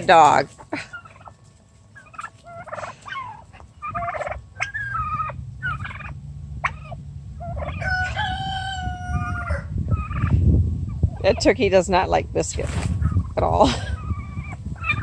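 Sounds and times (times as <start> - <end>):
turkey hen calling: 0.1 - 11.8, 12.9 - 15.0.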